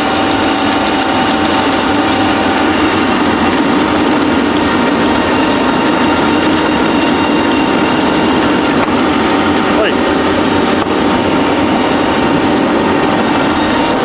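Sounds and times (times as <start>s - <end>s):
pellet mill machine drone: 0.0s - 14.0s.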